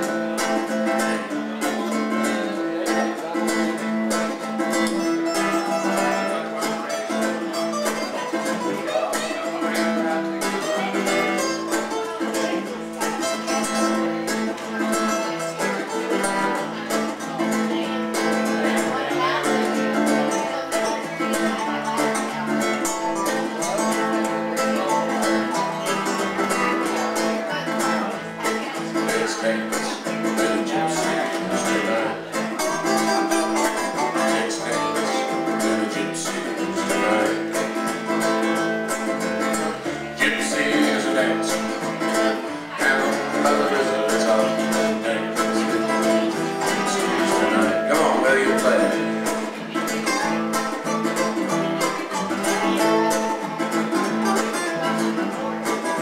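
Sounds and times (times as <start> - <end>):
acoustic string band playing: 0.0 - 56.0.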